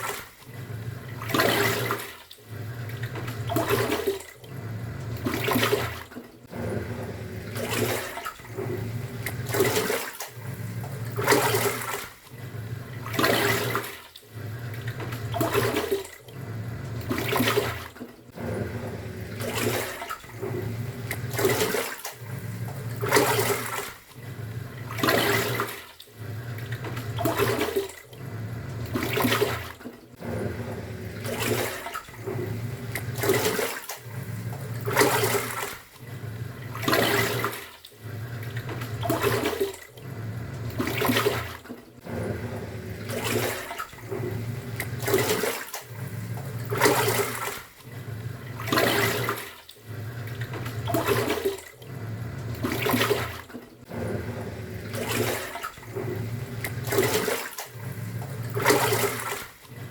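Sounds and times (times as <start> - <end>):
washing machine motor humming: 0.0 - 59.9
water sloshing and splashing: 0.0 - 59.9.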